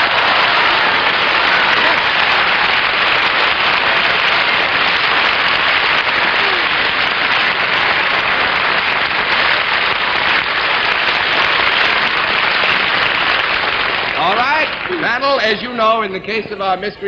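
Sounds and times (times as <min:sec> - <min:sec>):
studio audience applauding: 0:00.0 - 0:16.8.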